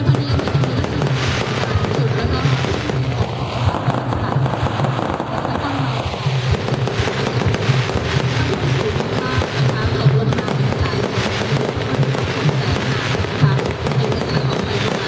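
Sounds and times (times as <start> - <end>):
background music: 0.0 - 15.0
fireworks crackling and popping: 0.0 - 15.0
fountain fireworks hissing: 0.0 - 15.0.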